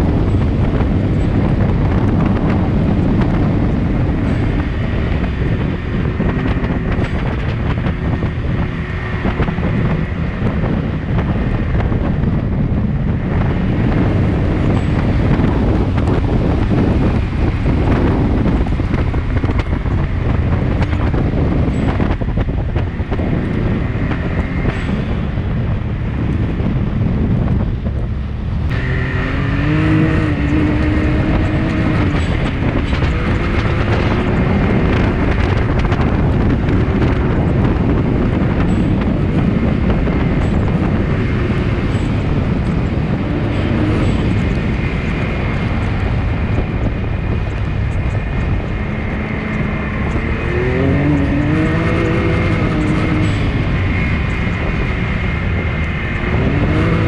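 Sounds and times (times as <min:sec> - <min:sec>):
vehicle engine under load: 0:00.0 - 0:57.0
wind buffeting microphone: 0:00.0 - 0:57.0.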